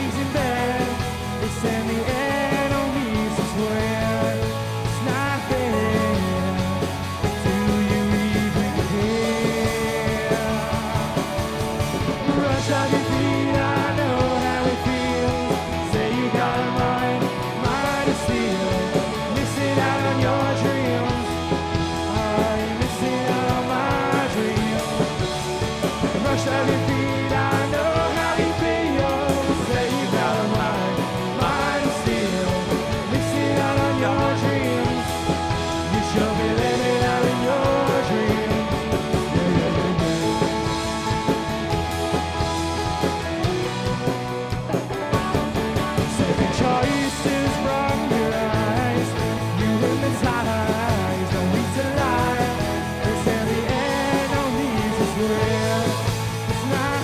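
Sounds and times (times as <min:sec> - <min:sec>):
person singing: 0:00.0 - 0:41.9, 0:46.0 - 0:57.0
bass guitar notes: 0:00.0 - 0:57.0
pop-rock band playing: 0:00.0 - 0:57.0.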